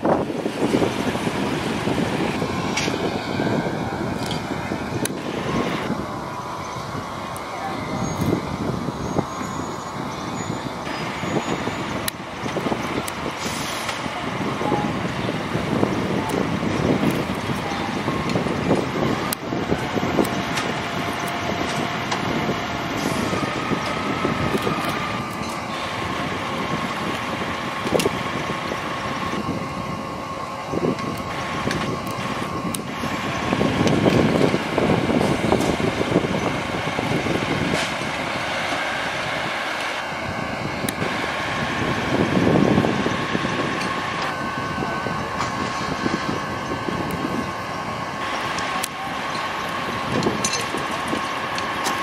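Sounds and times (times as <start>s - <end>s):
fire engine rumble: 0.0s - 52.0s
thin steady whine: 0.0s - 52.0s.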